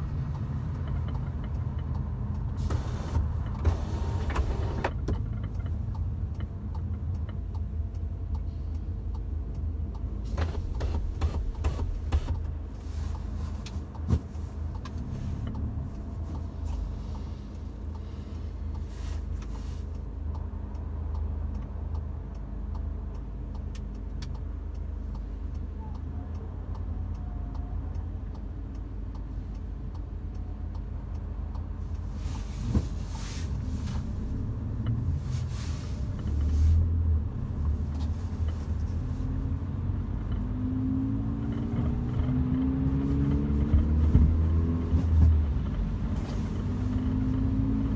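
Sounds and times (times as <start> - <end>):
interior clicks and rattles: 0.0 - 47.9
road and engine rumble: 0.0 - 47.9.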